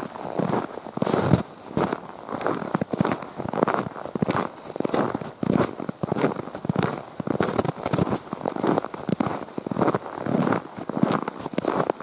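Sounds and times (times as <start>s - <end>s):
footsteps crunching in snow: 0.0s - 12.0s.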